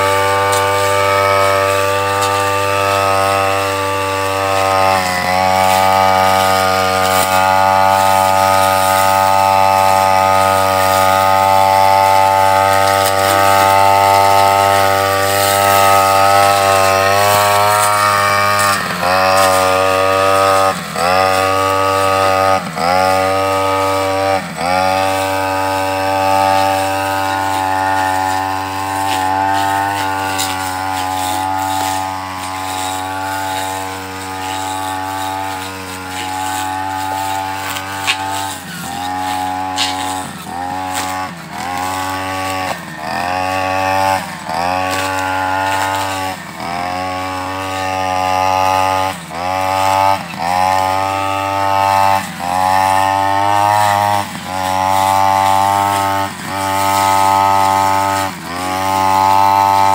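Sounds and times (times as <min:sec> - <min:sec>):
blade cutting grass and brush: 0:00.0 - 0:59.9
brush cutter engine high revs: 0:00.0 - 0:59.9.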